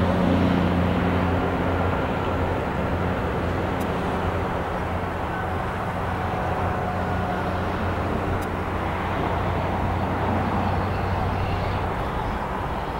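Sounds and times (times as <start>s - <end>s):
distant jet engines rumbling: 0.0s - 12.9s.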